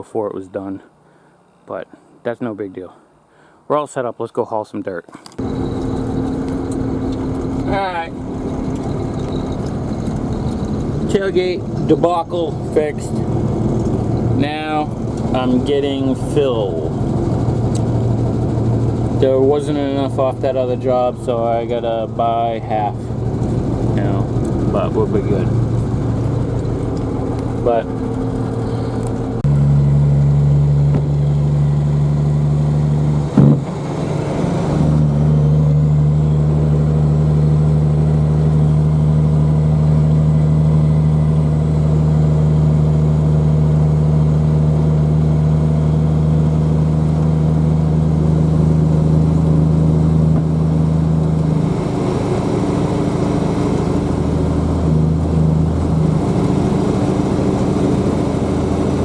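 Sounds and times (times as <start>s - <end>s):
heavy engine running: 5.4s - 59.0s.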